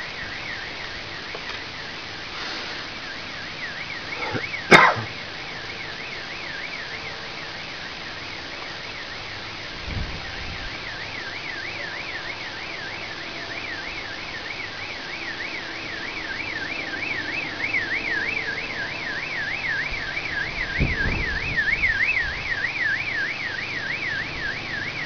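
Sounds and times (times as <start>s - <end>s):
car alarm siren warbling: 0.0s - 25.0s.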